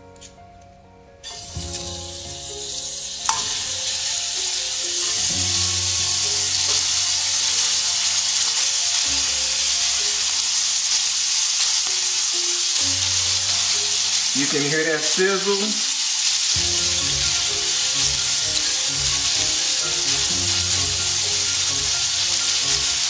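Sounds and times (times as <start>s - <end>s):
chicken sizzling in a frying pan: 1.2s - 23.0s.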